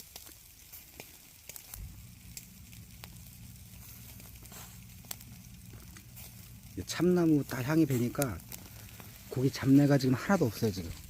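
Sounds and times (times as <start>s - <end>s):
burning wood popping and crackling: 0.0s - 11.0s
ribs sizzling over fire: 0.0s - 11.0s
low steady hum: 0.4s - 11.0s.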